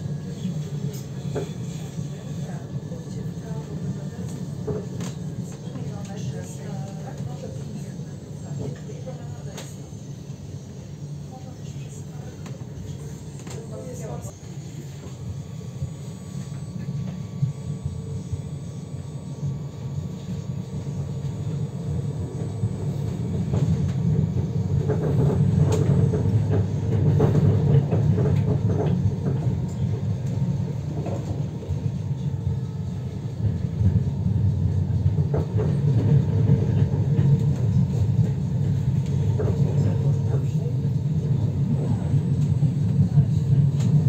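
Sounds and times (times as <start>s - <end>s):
tram wheels rumbling on rails: 0.0s - 9.8s, 16.8s - 44.0s.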